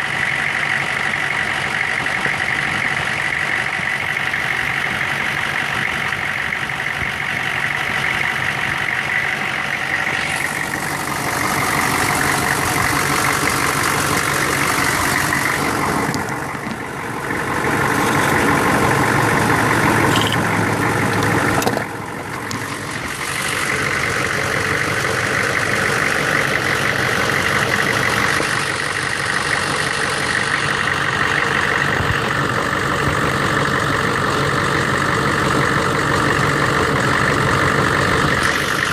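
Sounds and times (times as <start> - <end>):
diesel engine running unevenly: 0.0 - 38.9.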